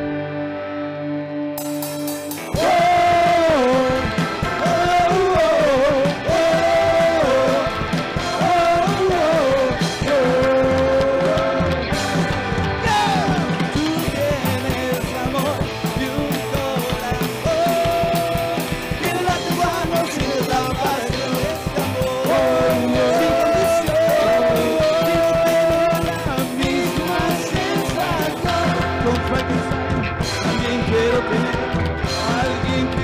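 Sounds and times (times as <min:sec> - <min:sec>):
rockabilly band playing: 0:00.0 - 0:33.0
person singing: 0:02.4 - 0:33.0.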